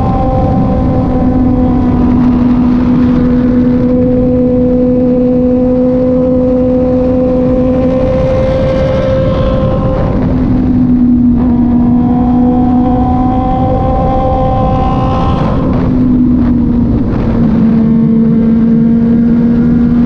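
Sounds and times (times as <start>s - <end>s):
motorcycle engine cruising: 0.0s - 20.0s
wind and road noise: 0.0s - 20.0s.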